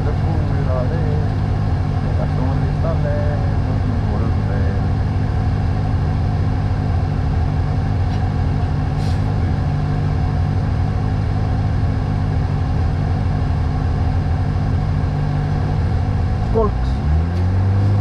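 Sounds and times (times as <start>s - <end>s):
car engine running steadily: 0.0s - 18.0s.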